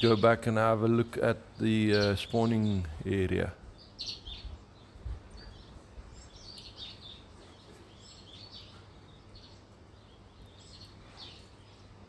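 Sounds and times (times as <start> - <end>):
birds chirping faintly: 0.0 - 12.0
low background hum: 0.0 - 12.0.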